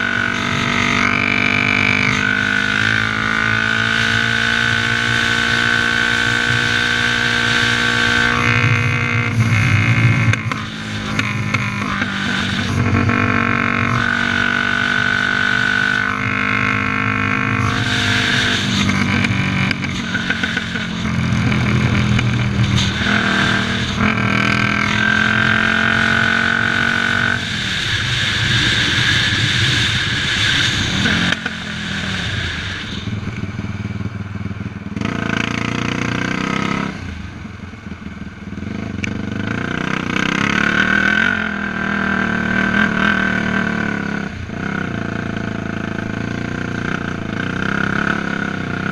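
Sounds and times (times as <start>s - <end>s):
quad engine revving: 0.0s - 33.1s, 35.0s - 37.0s, 38.7s - 48.9s.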